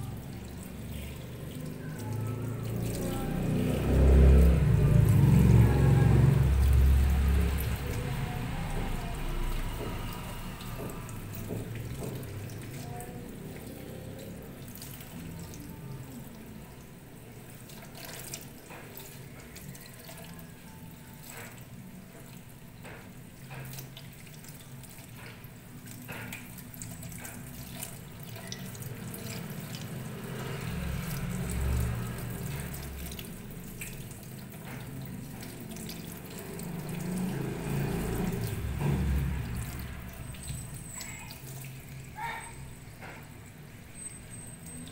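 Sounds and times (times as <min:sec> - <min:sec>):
small splashes: 0:00.0 - 0:44.9
tap water running into sink: 0:00.0 - 0:44.9.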